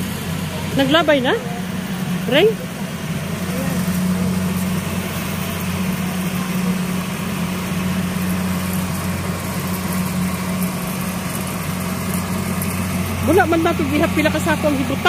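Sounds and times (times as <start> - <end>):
harvester diesel engine droning: 0.0 - 15.0.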